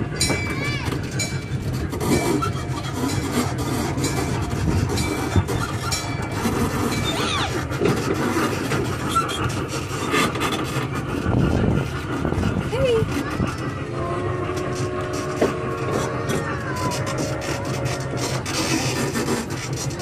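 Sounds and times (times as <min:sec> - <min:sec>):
miniature train rumbling on track: 0:00.0 - 0:20.0.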